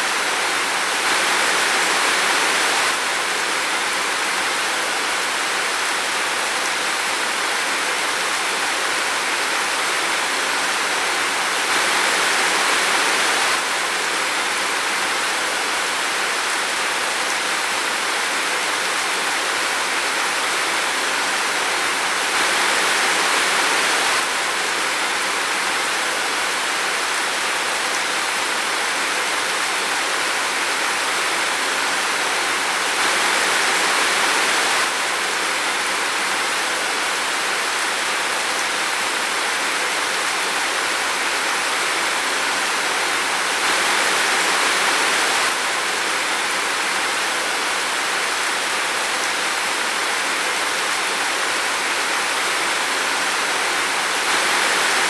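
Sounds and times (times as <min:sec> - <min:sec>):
steady rain in a forest: 0:00.0 - 0:55.0.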